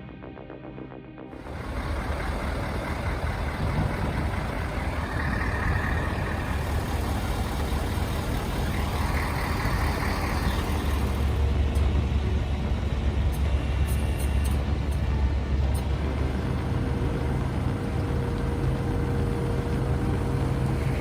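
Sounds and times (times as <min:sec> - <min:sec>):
road noise: 0:01.4 - 0:21.0
truck diesel engine rumbling: 0:01.4 - 0:21.0.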